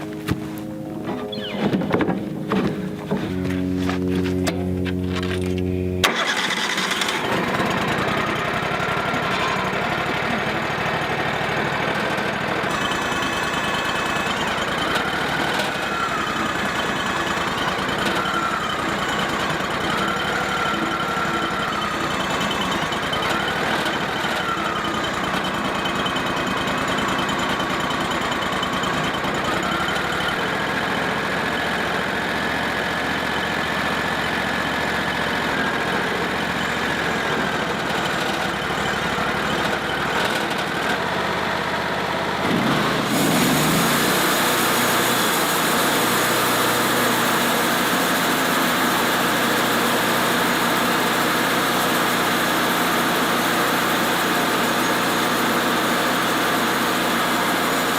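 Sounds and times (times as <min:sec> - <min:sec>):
engine running with whine: 0:00.0 - 0:57.9.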